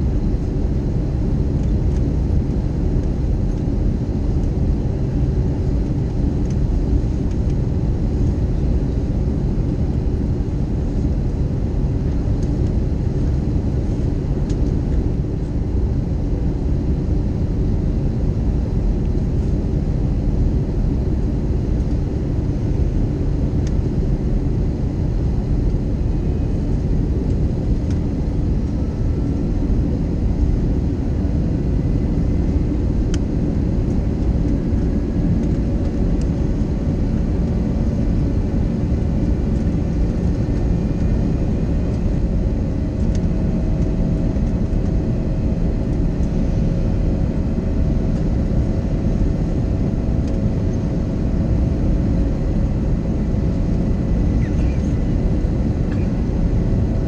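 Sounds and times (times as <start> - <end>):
airplane cabin rumble: 0.0 - 57.0
faint engine whine: 0.0 - 57.0.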